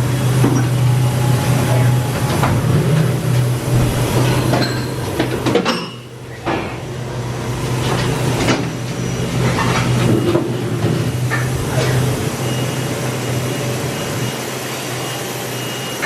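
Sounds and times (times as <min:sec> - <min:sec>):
low machinery hum: 0:00.0 - 0:14.8.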